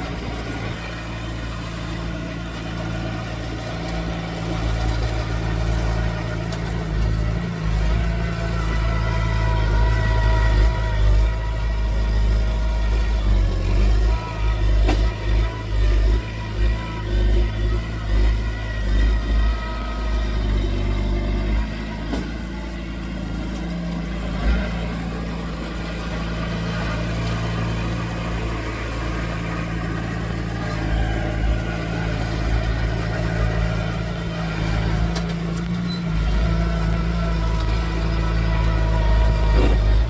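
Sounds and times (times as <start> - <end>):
heavy machinery diesel engine: 0.0 - 40.0.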